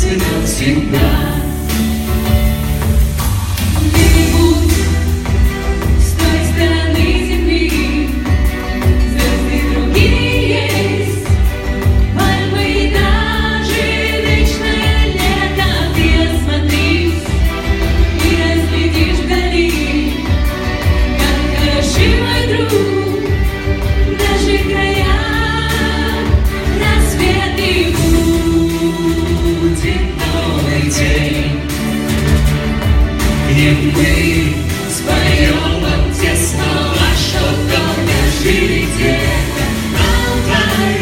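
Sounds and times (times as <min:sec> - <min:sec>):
pop song with voices singing: 0:00.0 - 0:41.0.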